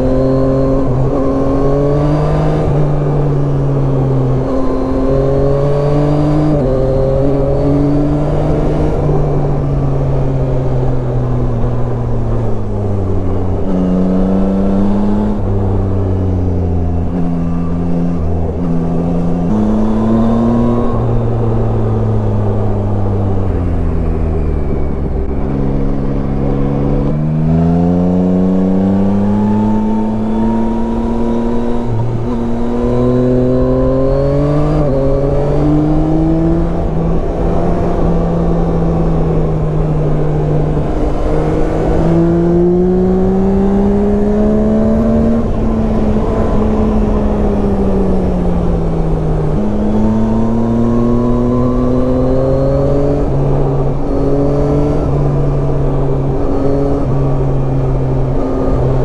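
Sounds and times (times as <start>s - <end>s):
motorcycle engine shifting gears: 0.0s - 59.0s
wind noise: 0.0s - 59.0s.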